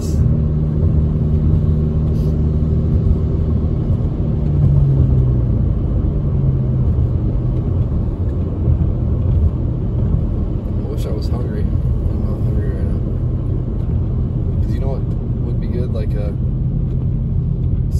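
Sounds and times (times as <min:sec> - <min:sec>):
car driving on wet road: 0:00.0 - 0:17.9
engine hum: 0:00.0 - 0:17.9.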